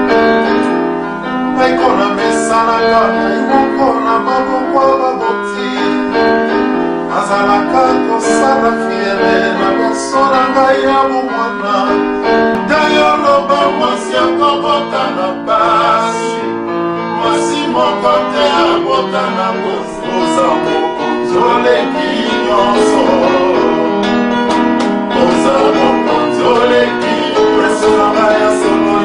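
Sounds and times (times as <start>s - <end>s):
electronic keyboard chords: 0.0s - 29.0s
man singing worship song: 1.5s - 6.4s, 7.1s - 16.4s, 17.1s - 24.5s, 25.1s - 29.0s.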